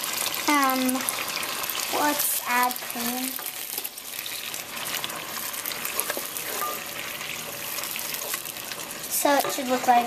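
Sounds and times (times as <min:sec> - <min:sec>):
vegetables sizzling in a pot: 0:00.0 - 0:10.0.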